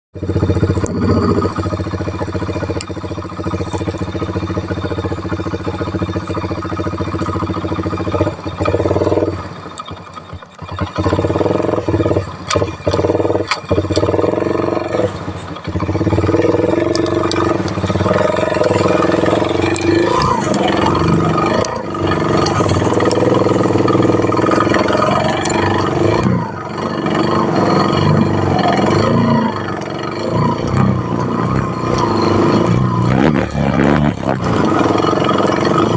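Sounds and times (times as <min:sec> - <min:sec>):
motorcycle engine running: 0:00.0 - 0:35.9
motorcycle clattering over bumps: 0:00.1 - 0:35.9.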